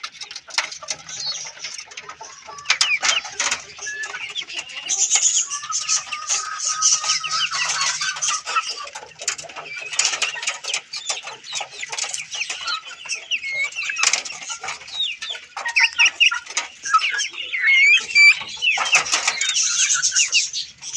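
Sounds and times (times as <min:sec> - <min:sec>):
chickens clucking and calling: 0:00.0 - 0:20.9.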